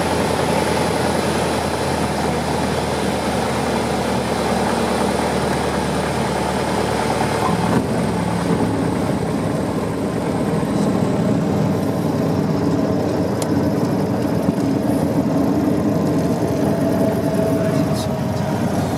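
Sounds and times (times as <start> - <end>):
small aircraft engine and propeller: 0.0 - 18.9.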